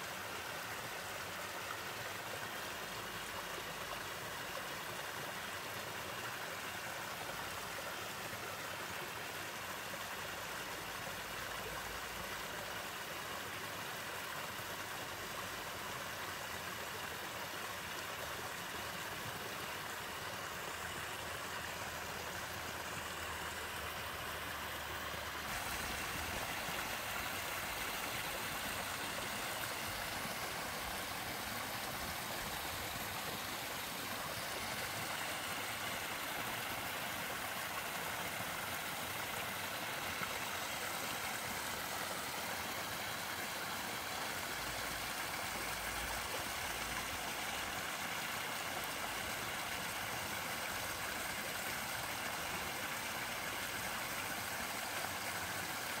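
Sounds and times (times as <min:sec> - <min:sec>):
waterfall splashing over rocks: 0:00.2 - 0:56.0.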